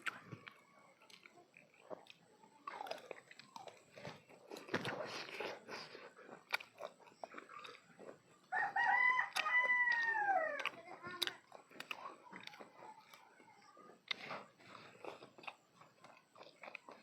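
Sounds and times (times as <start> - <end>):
food crunched and chewed: 0.0 - 17.0.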